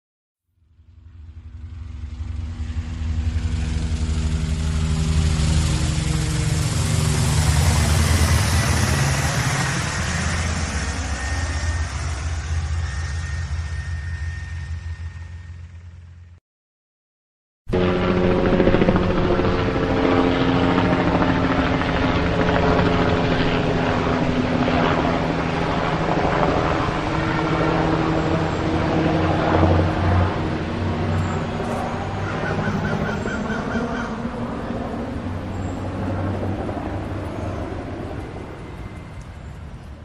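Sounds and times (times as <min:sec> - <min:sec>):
helicopter engine whine: 0:00.6 - 0:16.4, 0:17.7 - 0:40.0
helicopter rotor chop: 0:00.8 - 0:16.3, 0:17.7 - 0:40.0.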